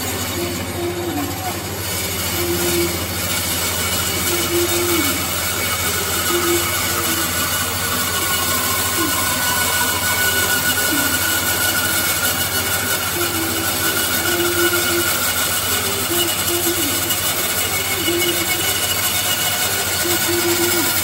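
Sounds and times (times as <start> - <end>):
bandsaw cutting log: 0.0 - 21.0.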